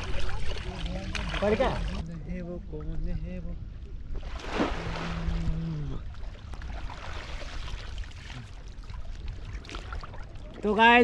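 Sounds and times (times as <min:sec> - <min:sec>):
water splashing and sloshing: 0:00.0 - 0:02.9, 0:04.0 - 0:11.0.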